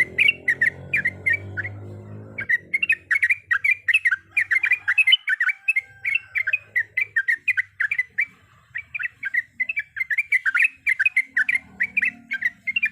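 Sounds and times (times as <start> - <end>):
bird singing rapid chirps: 0.0 - 12.9.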